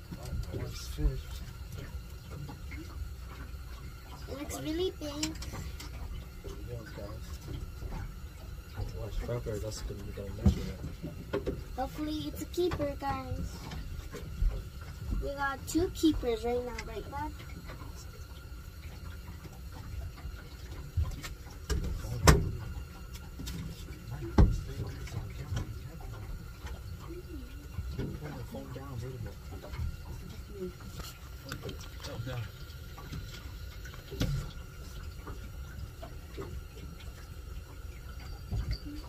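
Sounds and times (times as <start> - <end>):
water splashing and trickling: 0.0 - 39.0.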